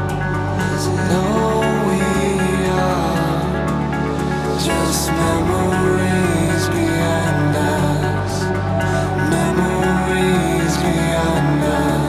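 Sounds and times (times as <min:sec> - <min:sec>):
electronic music with sustained tones: 0:00.0 - 0:12.0.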